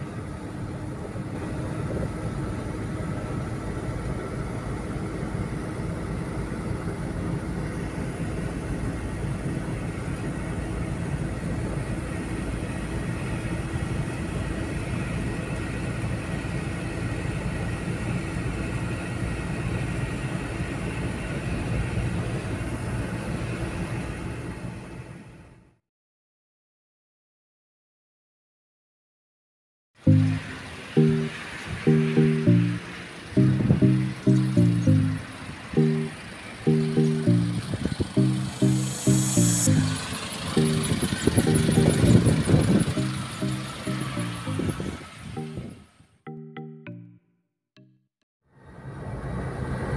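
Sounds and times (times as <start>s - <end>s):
car engine drone: 0.0s - 25.2s, 30.0s - 46.0s.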